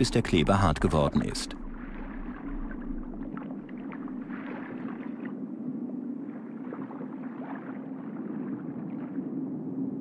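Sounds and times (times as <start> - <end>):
underwater low hum: 0.0 - 10.0.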